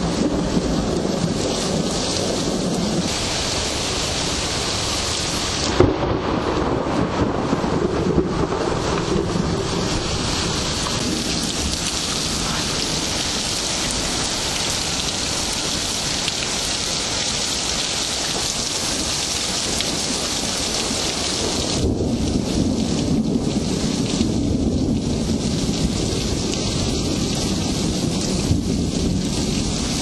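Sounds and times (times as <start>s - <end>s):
heavy rain falling: 0.0s - 30.0s
low rumble of thunder: 0.0s - 30.0s.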